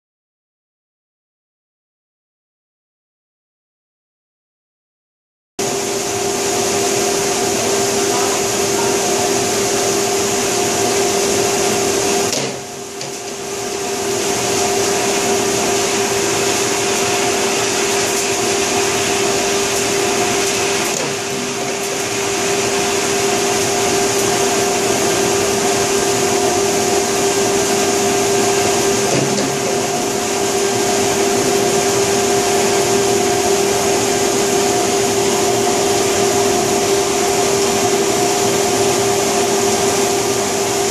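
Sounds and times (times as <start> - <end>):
machine hum: 5.6 - 40.9.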